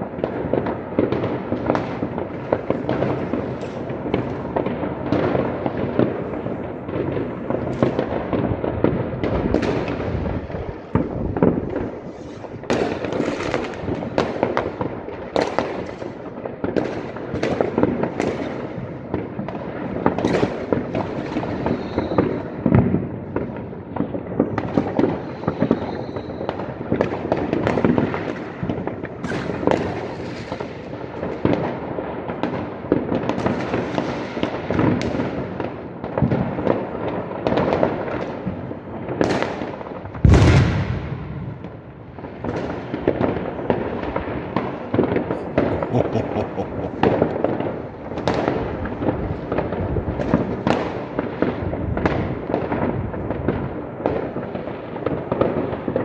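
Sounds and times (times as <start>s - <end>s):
firework bangs: 0.0s - 56.0s
fireworks crackling: 0.0s - 56.0s.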